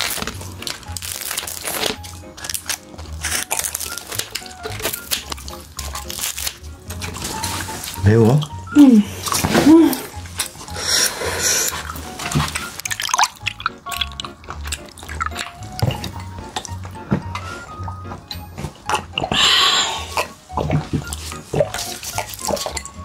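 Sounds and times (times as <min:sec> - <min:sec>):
background music with low beat: 0:00.0 - 0:23.0
wet chewing and slurping: 0:00.0 - 0:23.0.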